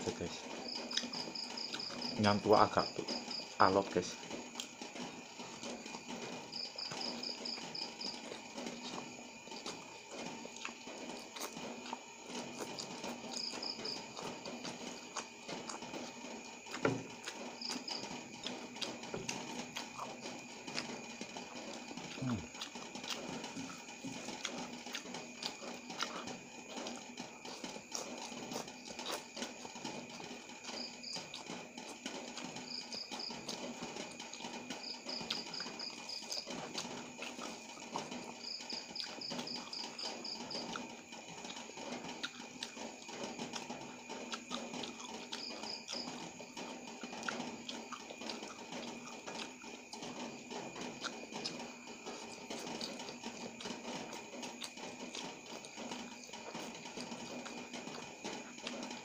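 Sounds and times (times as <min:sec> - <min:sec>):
background hum: 0:00.0 - 0:59.0
person chewing: 0:00.8 - 0:02.2, 0:06.8 - 0:59.0.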